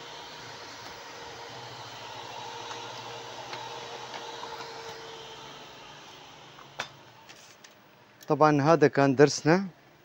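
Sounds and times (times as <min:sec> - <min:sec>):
cooling fan whirring: 0:00.0 - 0:08.8.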